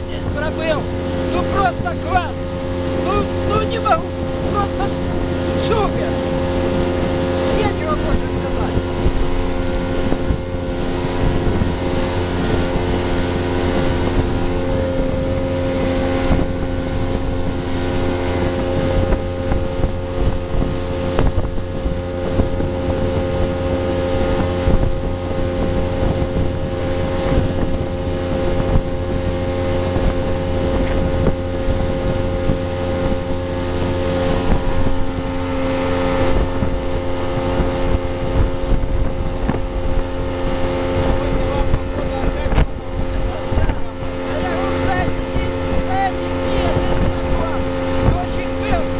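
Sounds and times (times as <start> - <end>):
motorboat engine drone: 0.0 - 48.9
water rushing: 0.0 - 48.9
wind buffeting microphone: 0.0 - 48.9.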